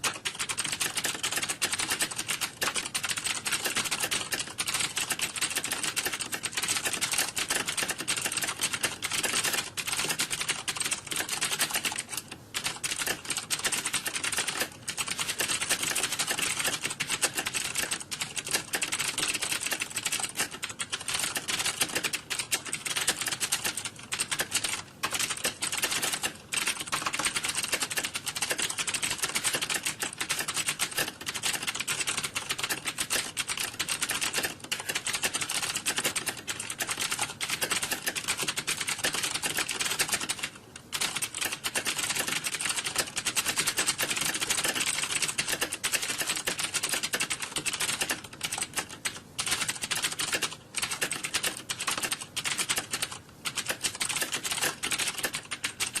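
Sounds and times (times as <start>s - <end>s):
computer keyboard typing: 0.0s - 56.0s.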